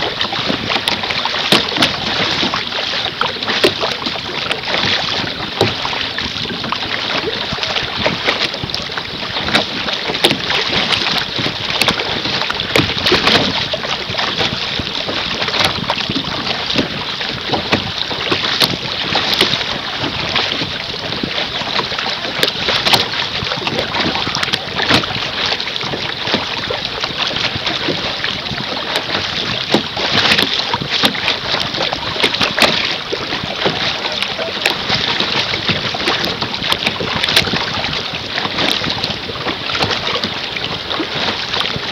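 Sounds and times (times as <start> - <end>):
water splashing against canoe: 0.0 - 41.9
wind buffeting microphone: 0.0 - 41.9.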